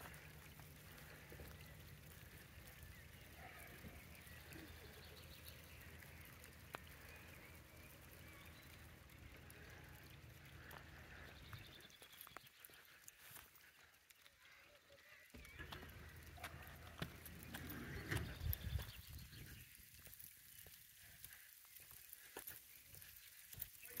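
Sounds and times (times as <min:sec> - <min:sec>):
distant bird calls: 0:00.0 - 0:24.0.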